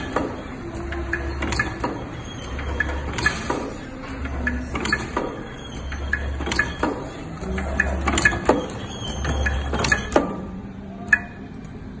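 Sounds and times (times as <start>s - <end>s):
machine mechanism clacking: 0.0s - 11.8s.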